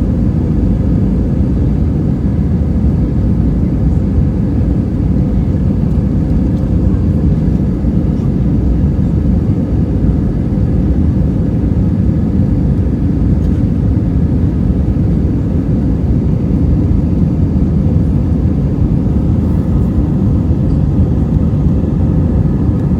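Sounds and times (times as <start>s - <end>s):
faint steady engine tones: 0.0s - 22.9s
jet engine cabin rumble: 0.0s - 22.9s.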